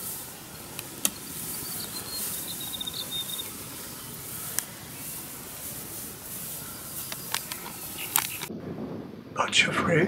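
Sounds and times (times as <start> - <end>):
bird chirping: 0.0 - 8.5
footsteps through long grass: 0.0 - 8.5
high insect hiss: 0.0 - 8.5.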